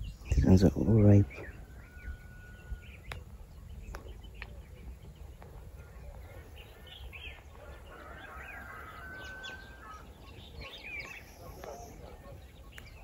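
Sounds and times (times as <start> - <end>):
bird chirps and calls: 0.0 - 13.0.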